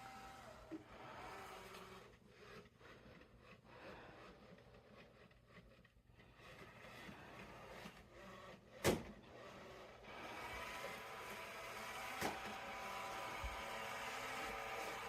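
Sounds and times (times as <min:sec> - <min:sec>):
robot vacuum motor hum: 0:00.0 - 0:15.0.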